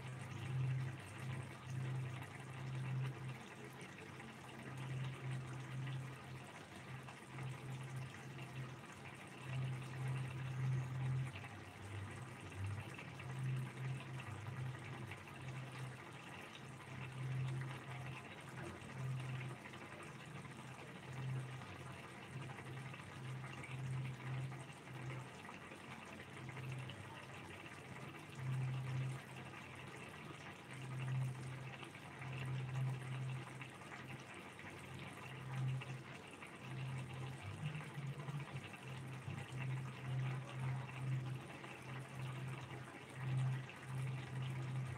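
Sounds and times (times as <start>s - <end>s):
gravy simmering in a frying pan: 0.0s - 44.9s.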